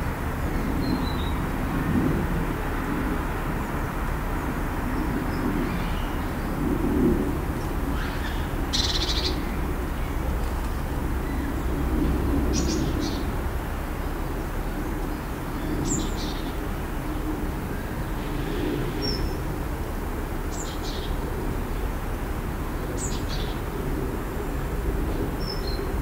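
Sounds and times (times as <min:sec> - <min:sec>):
urban traffic rumble: 0:00.0 - 0:26.0.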